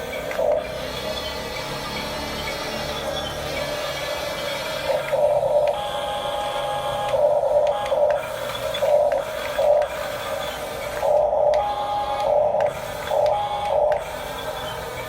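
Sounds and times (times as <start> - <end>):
toy motors whirring with whine: 0.0 - 15.0.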